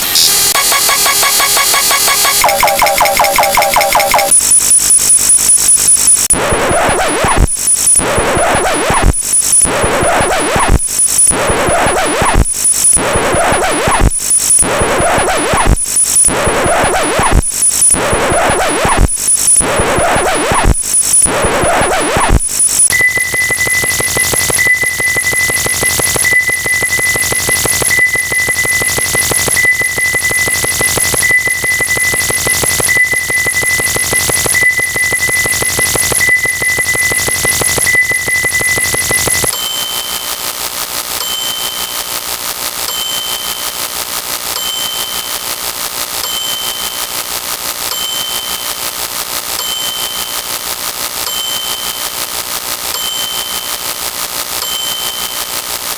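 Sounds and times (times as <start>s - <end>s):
high electronic beep: 0.0s - 55.9s
rapid electronic buzzing pulse: 0.0s - 55.9s.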